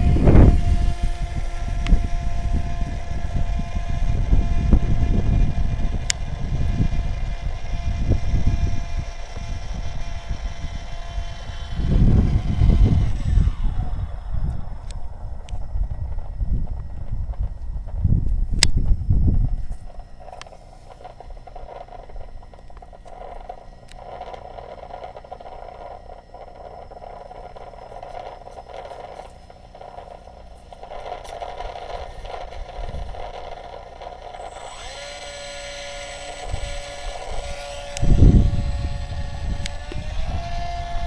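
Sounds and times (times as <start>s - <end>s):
model plane motor whining: 0.0s - 41.0s.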